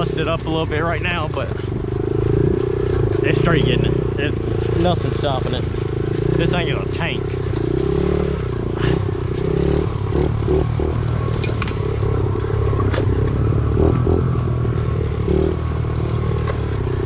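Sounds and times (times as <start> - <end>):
bike rattling: 0.0 - 17.0
small motorbike engine revving: 1.0 - 17.0.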